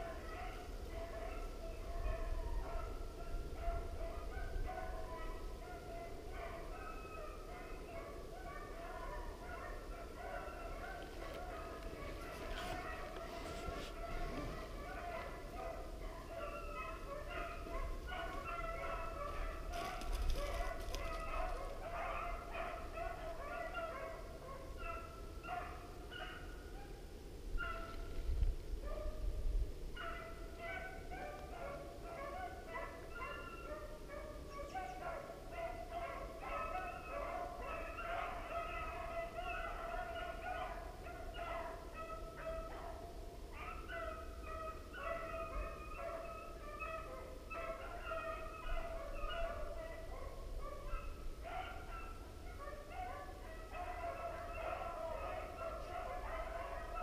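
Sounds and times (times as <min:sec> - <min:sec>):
beagles baying: 0:00.0 - 0:27.0, 0:27.6 - 0:28.2, 0:30.0 - 0:57.0.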